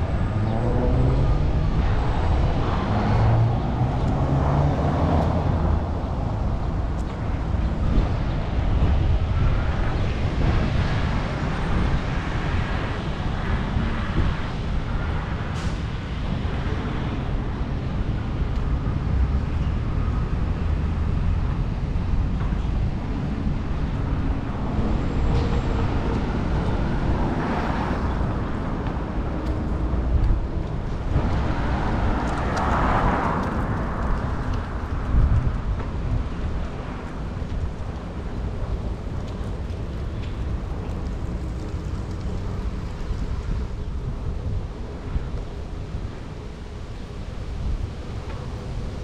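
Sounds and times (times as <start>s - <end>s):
street traffic: 0.0s - 49.0s
vehicles passing: 0.0s - 49.0s.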